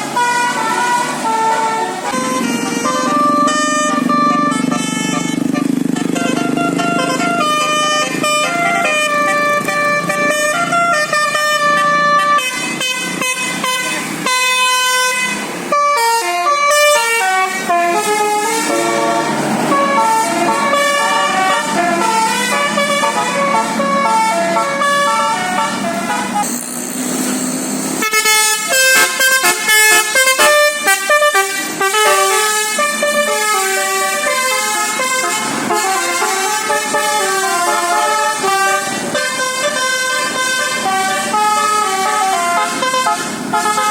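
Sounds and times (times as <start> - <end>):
musical bus horn melody: 0.0 - 43.9.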